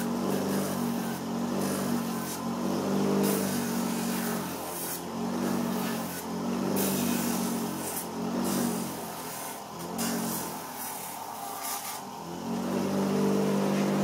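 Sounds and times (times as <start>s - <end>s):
bench grinder motor humming: 0.0s - 14.0s
foam sole sanding on grinder: 0.0s - 14.0s.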